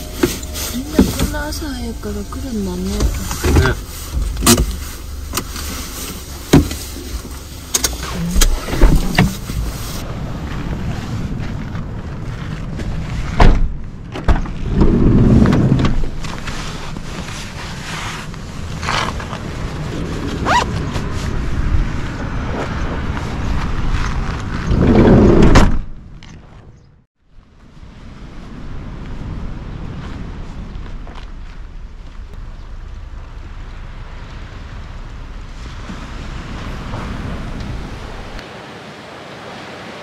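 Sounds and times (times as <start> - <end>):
car engine rumble: 0.0 - 38.6
road noise: 0.0 - 40.0.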